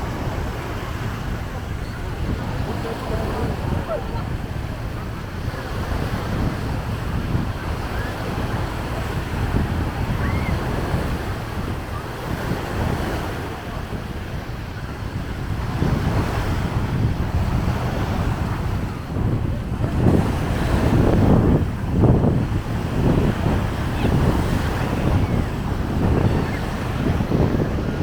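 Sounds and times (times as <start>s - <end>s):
sea waves washing on beach: 0.0s - 28.0s
wind buffeting microphone: 0.0s - 28.0s.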